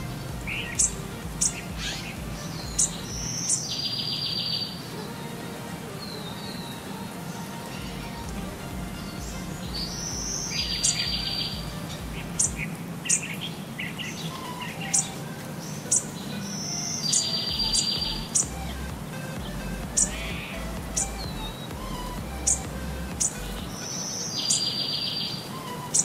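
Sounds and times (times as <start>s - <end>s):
buzzy high bird trill: 0.0s - 4.9s, 6.0s - 26.0s.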